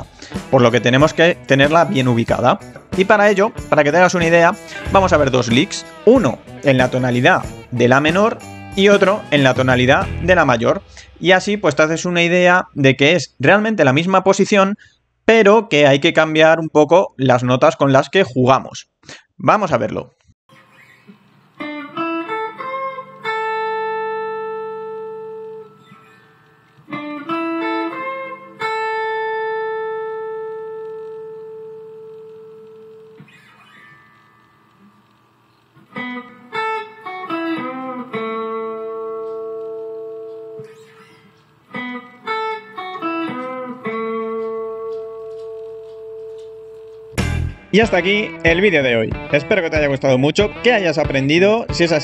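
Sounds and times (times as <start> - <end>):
electric guitar licks with bends: 0.0 - 12.0, 20.5 - 52.0.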